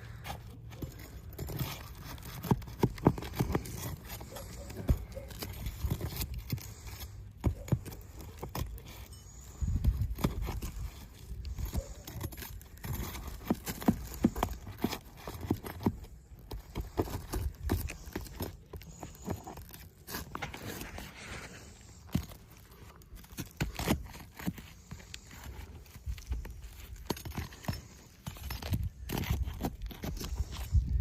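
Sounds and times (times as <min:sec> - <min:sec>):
small knocks and scrapes: 0:00.0 - 0:31.0.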